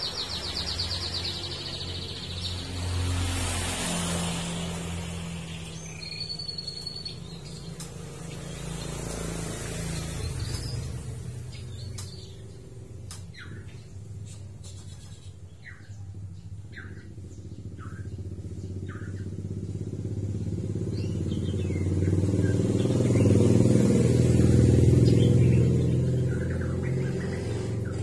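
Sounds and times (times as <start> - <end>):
motorcycle engine running: 4.5 - 14.6, 15.4 - 28.0.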